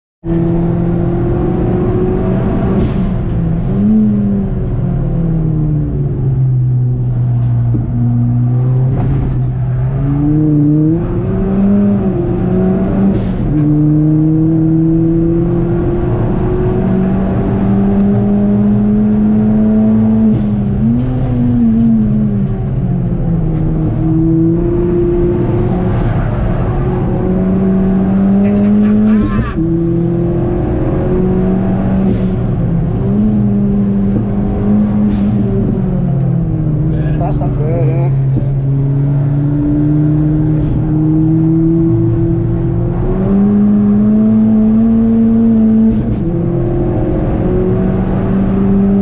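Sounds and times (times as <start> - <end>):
car engine revving: 0.2 - 49.0
road and tyre noise: 0.2 - 49.0.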